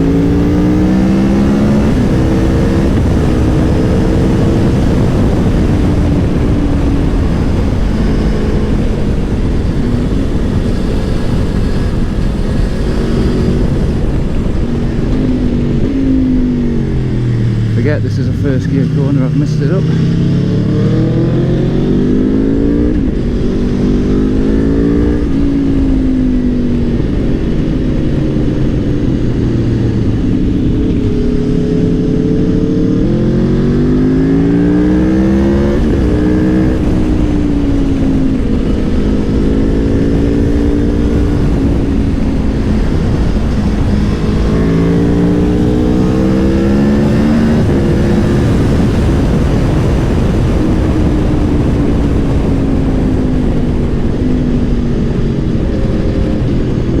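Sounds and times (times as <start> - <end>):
motorcycle engine revving: 0.0 - 57.0
wind rumble: 0.0 - 57.0.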